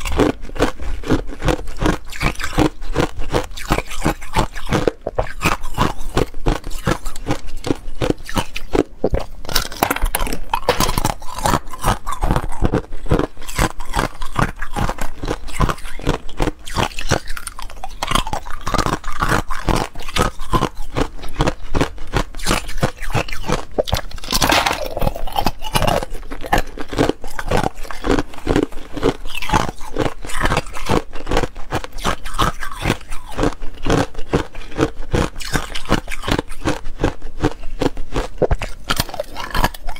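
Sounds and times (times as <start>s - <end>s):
ice crunching and chewing: 0.0s - 39.9s.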